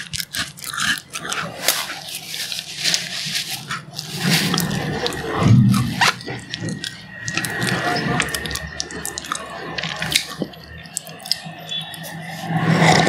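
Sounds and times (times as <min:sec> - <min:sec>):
mouth chewing sounds: 0:00.0 - 0:13.0.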